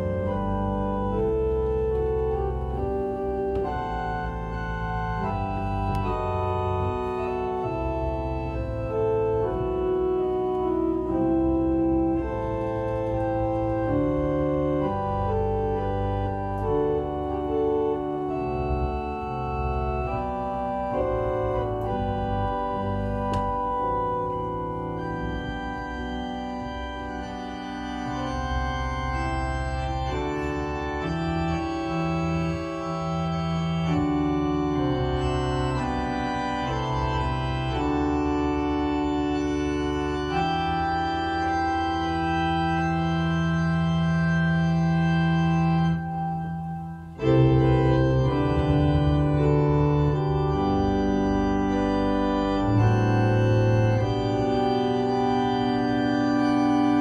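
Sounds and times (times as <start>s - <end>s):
church organ chords: 0.0s - 57.0s.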